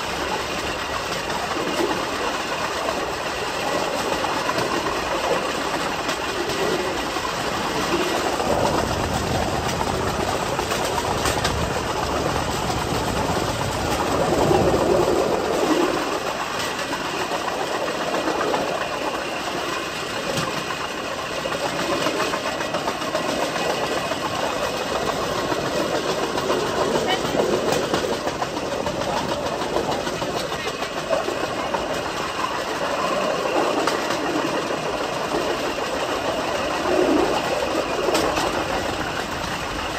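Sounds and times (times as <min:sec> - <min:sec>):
steel wheels rolling on track: 0:00.0 - 0:39.9
wheels clicking over rail joints: 0:00.0 - 0:39.9.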